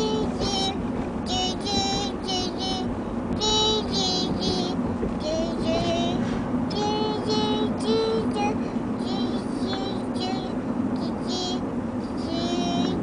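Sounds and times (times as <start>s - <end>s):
car hum: 0.0s - 13.0s
child singing wordlessly: 0.0s - 13.0s.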